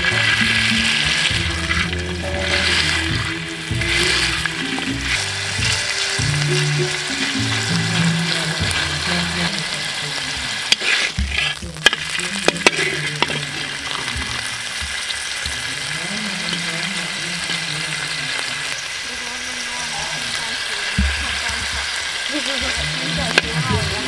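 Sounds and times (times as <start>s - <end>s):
burger patty sizzling in pan: 0.0s - 24.0s.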